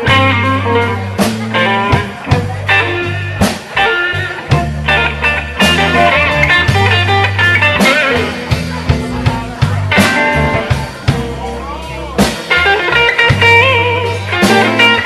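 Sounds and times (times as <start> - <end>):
blues band playing: 0.0 - 15.0
electric guitar bent notes: 0.0 - 15.0.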